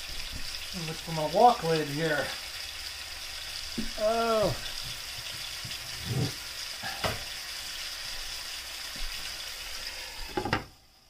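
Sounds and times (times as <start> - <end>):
pork sizzling in pan: 0.0 - 11.0.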